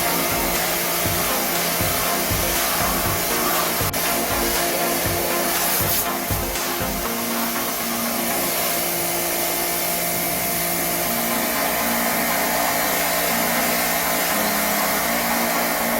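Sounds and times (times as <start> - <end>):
pressure washer motor hum: 0.0 - 15.9
water spray hissing: 0.0 - 15.9.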